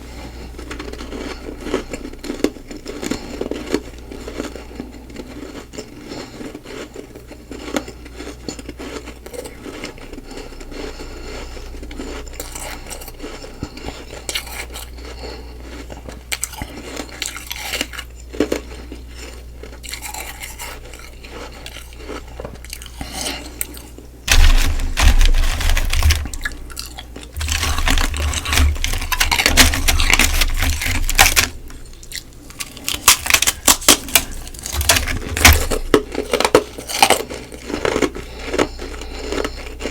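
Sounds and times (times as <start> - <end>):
chewing and crunching ice: 0.0 - 39.9.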